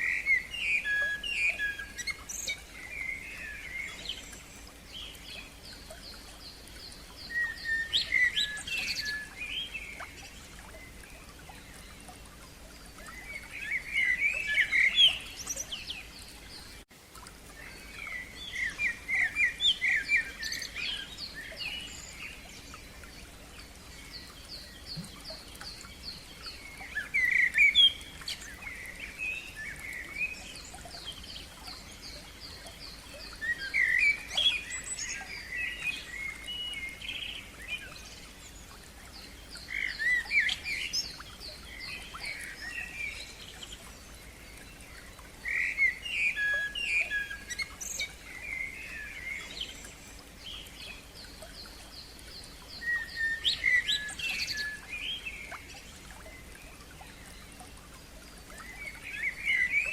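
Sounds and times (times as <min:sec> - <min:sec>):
bird song phrase: 0:00.0 - 0:12.2, 0:12.9 - 0:16.8, 0:17.6 - 0:59.9.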